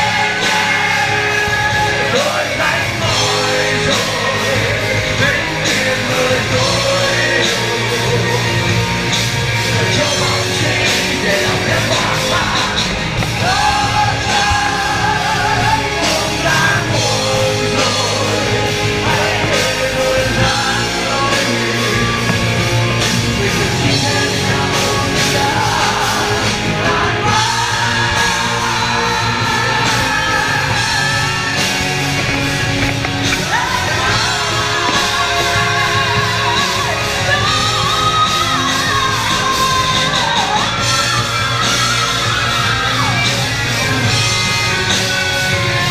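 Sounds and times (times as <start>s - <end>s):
person singing: 0.0s - 44.2s
bass guitar: 0.0s - 45.9s
drums: 0.0s - 45.9s
electric guitars: 0.0s - 45.9s.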